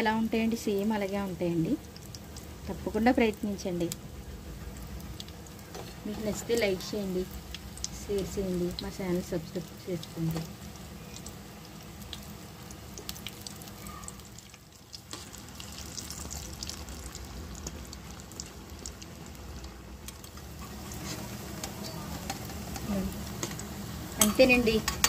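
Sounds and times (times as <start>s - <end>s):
fritters deep-frying in oil: 0.0s - 25.0s.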